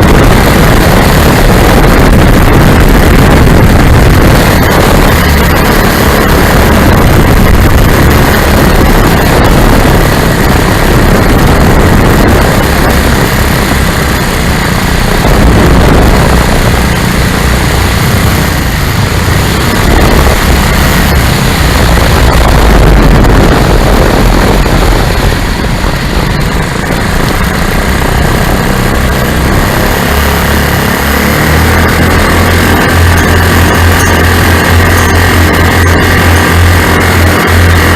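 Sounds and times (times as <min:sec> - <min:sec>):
small aircraft engines droning: 0:00.0 - 0:37.9
wind buffeting microphone: 0:00.0 - 0:37.9.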